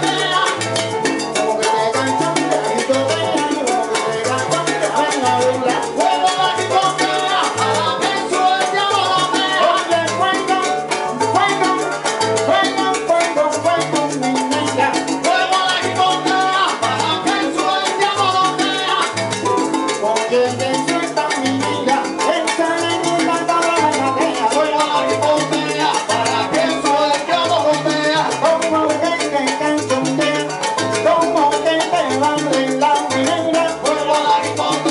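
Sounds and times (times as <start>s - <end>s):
electric upright bass line: 0.0s - 34.9s
salsa band playing: 0.0s - 34.9s.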